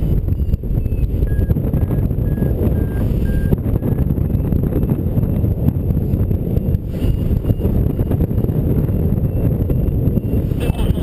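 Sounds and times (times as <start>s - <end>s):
variometer beeping: 0.0s - 4.6s, 5.7s - 11.0s
airflow rushing over microphone: 0.0s - 11.0s.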